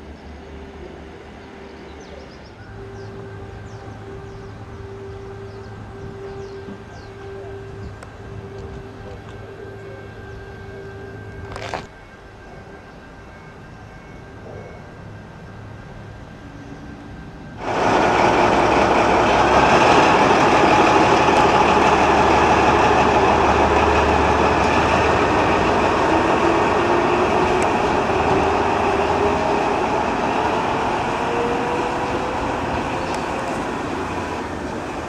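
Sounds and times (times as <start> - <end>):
diesel locomotive engine pulling away: 0.0 - 35.0
rising whine: 0.0 - 35.0.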